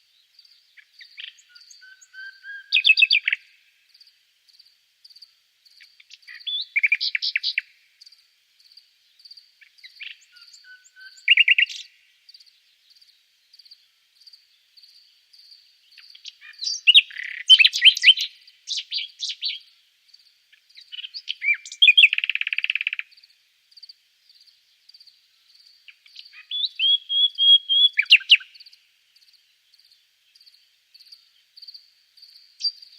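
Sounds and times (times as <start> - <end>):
cricket chirping: 0.0 - 32.9
nightingale singing: 0.0 - 32.9.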